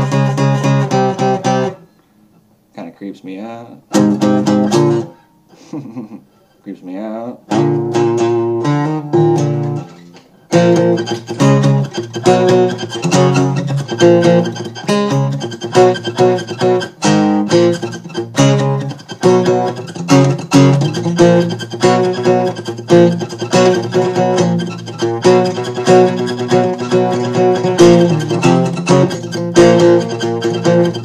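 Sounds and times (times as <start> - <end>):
guitar strumming chords: 0.0 - 1.9, 3.2 - 5.4, 6.8 - 31.0.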